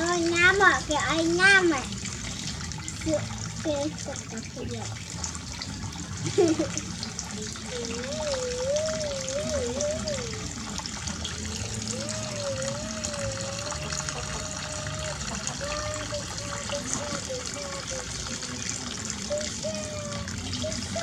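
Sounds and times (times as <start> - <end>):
water running from a tap: 0.0 - 21.0.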